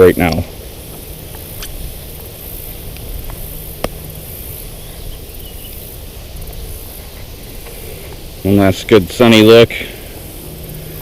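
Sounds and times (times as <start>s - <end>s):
high-pitched insect drone: 0.0s - 11.0s
steady hiss: 0.0s - 11.0s.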